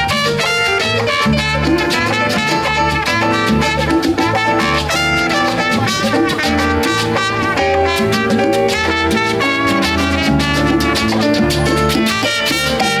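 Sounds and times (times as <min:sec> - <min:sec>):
latin band music: 0:00.0 - 0:13.0.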